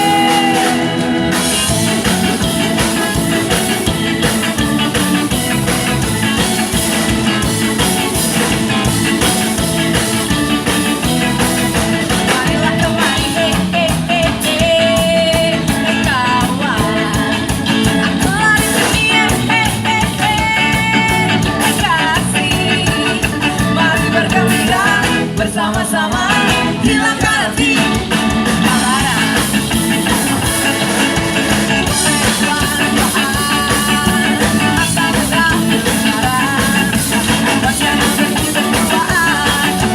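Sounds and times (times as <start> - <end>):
ska band music with singing: 0.0 - 39.9.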